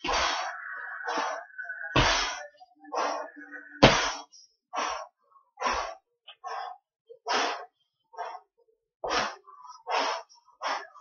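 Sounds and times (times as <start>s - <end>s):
person breathing forcefully: 0.0s - 11.0s.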